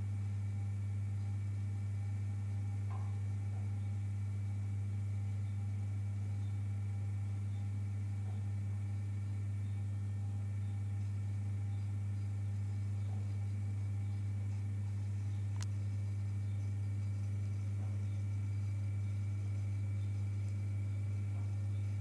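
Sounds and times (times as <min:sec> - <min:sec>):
aquarium equipment humming: 0:00.0 - 0:22.0.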